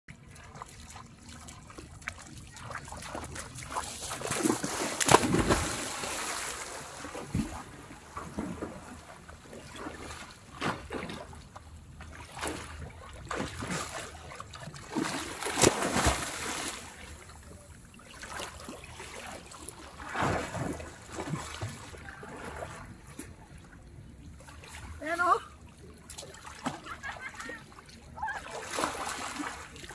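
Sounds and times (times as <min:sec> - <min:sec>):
water splashing and sloshing: 0:00.1 - 0:29.9.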